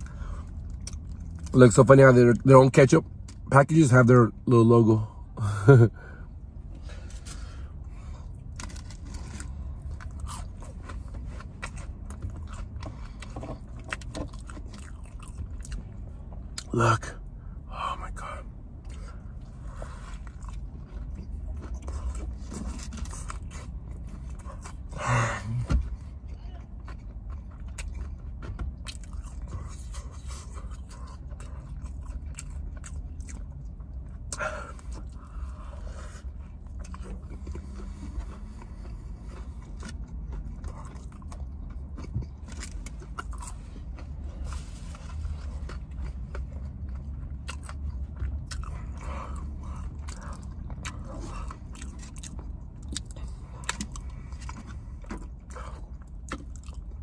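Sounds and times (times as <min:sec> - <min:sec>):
person chewing food: 0:00.0 - 0:01.6, 0:06.3 - 0:57.0
steady low hum: 0:00.0 - 0:57.0.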